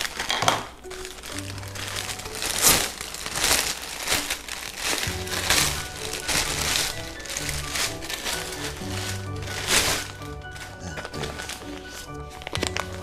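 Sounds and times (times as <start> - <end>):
background music: 0.0 - 13.0
plastic bag crinkling: 0.0 - 13.0.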